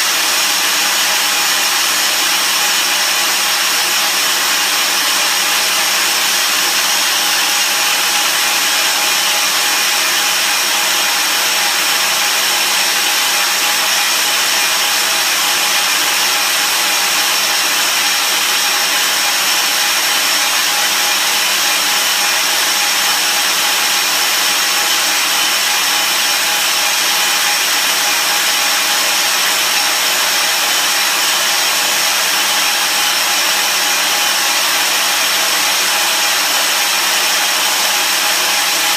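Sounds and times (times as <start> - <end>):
milling machine whirring: 0.0 - 38.9.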